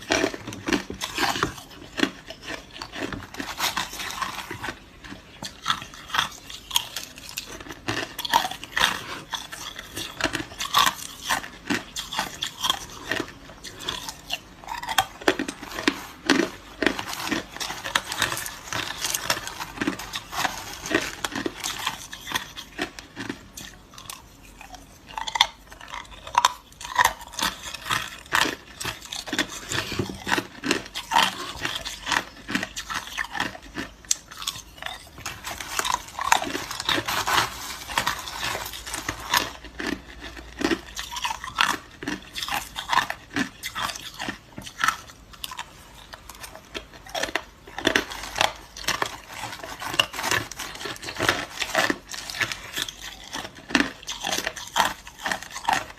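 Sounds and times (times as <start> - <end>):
chewing crushed ice: 0.0 - 55.9.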